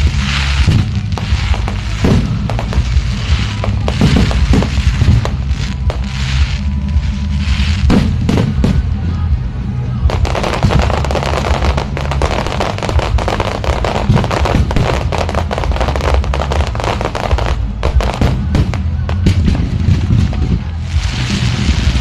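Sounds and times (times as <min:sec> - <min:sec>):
firework bangs: 0:00.0 - 0:09.1, 0:10.0 - 0:22.0
firework crackling: 0:00.0 - 0:22.0
music with heavy bass: 0:00.0 - 0:22.0.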